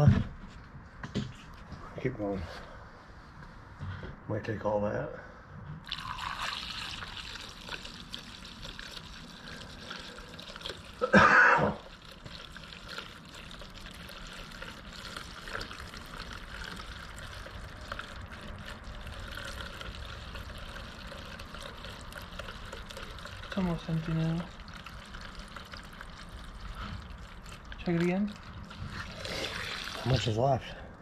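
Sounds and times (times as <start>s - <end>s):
fuel trickling into a tank: 5.8s - 31.0s.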